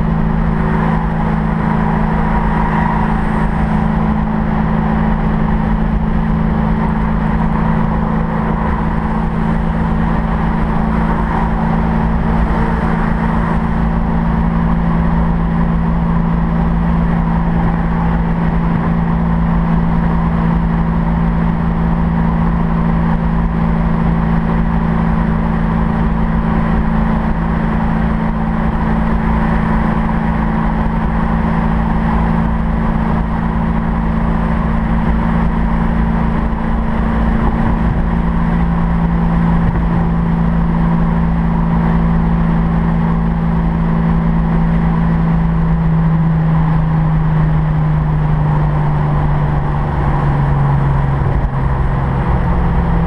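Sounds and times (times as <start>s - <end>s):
car engine droning: 0.0s - 53.0s
road and wind noise: 0.0s - 53.0s.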